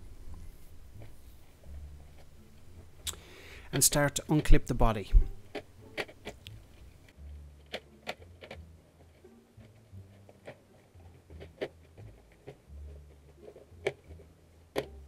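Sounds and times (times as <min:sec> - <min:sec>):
plastic shell rubbing: 0:00.0 - 0:03.0, 0:03.7 - 0:15.0.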